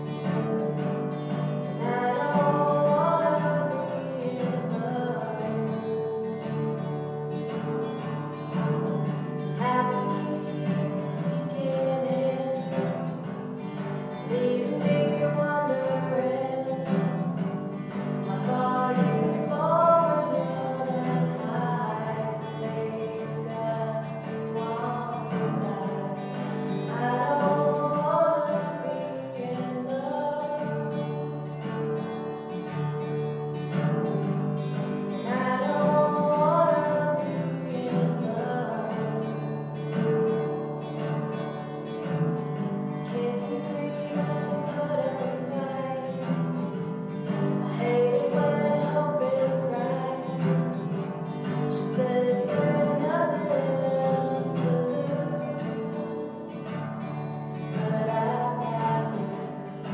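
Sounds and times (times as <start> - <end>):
acoustic guitar: 0.0 - 59.9
woman singing: 0.0 - 59.9.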